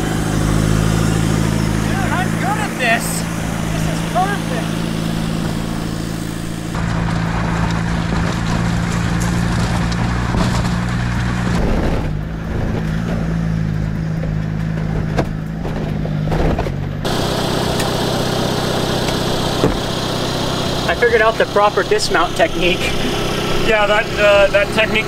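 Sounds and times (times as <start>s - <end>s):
vehicle running with low hum: 0.0s - 25.0s.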